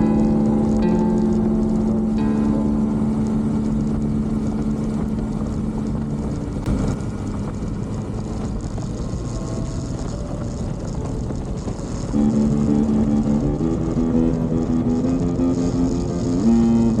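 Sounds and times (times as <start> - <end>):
motorcycle engine running: 0.0 - 17.0
steady drone: 0.0 - 17.0
wind noise: 0.0 - 17.0.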